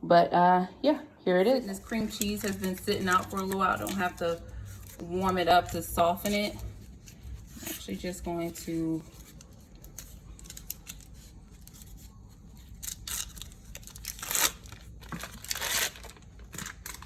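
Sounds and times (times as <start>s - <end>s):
packaging tearing and crinkling: 1.7s - 7.7s, 9.0s - 17.0s.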